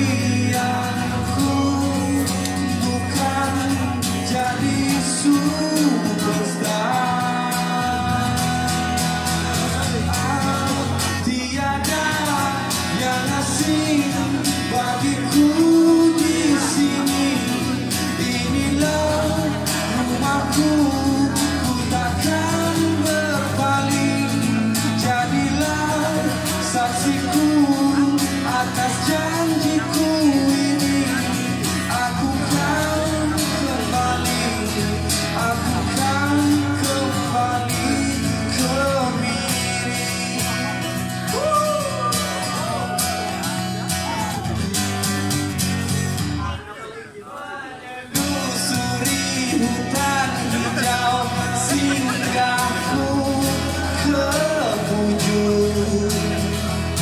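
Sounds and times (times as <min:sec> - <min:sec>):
man singing pop ballad: 0:00.0 - 0:45.1, 0:46.4 - 0:57.0
strummed acoustic guitar: 0:00.0 - 0:47.0, 0:47.8 - 0:57.0.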